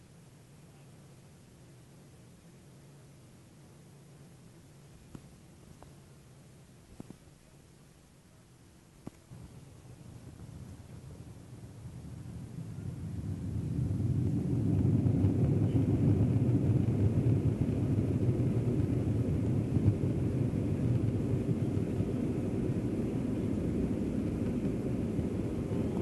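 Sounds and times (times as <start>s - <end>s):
jet engines deep rumble: 0.0s - 26.0s.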